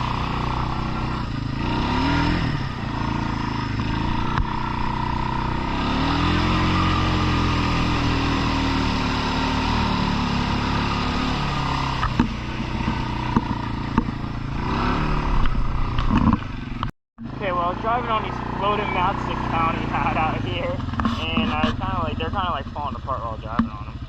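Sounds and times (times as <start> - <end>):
four-wheeler engine revving: 0.0 - 24.0.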